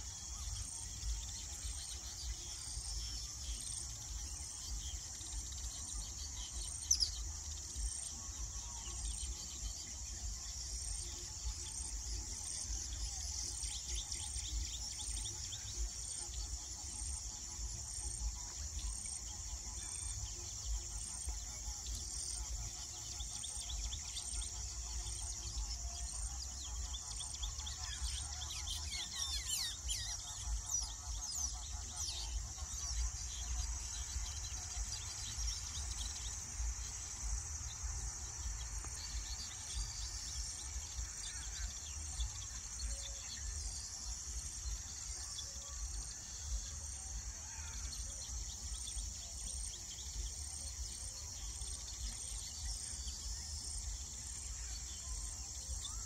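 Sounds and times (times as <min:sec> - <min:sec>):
birds chirping and chattering: 0:00.0 - 0:56.0
high-pitched insect chorus: 0:00.0 - 0:56.0.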